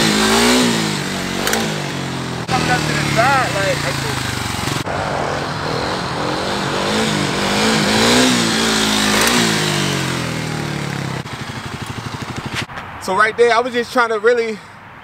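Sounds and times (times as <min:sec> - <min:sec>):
dirt bike engine revving: 0:00.0 - 0:12.7.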